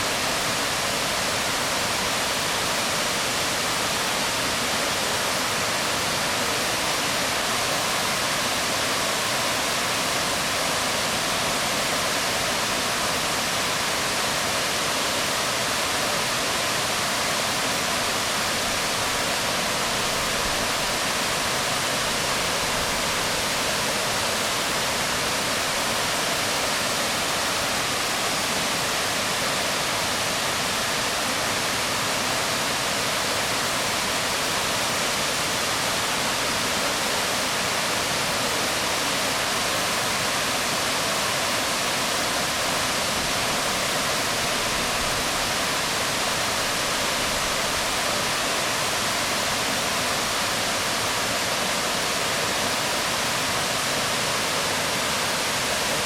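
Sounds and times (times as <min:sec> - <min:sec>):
waterfall crashing onto rocks: 0:00.0 - 0:56.0.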